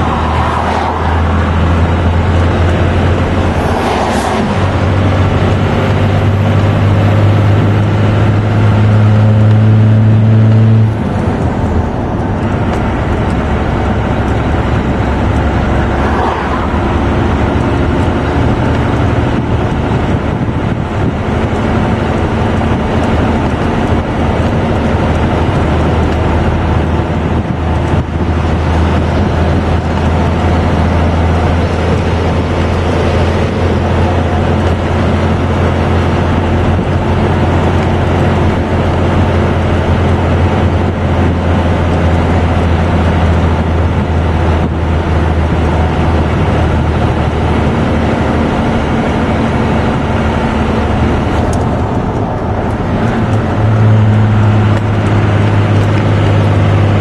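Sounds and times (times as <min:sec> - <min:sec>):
diesel engine droning: 0:00.0 - 0:57.0
road noise: 0:00.0 - 0:57.0.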